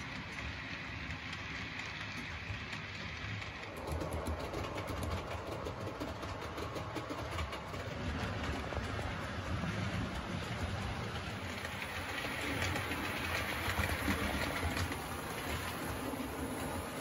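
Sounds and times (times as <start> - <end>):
model trains whirring on track: 0.0 - 17.0
rapid clicking and rattling: 0.0 - 17.0.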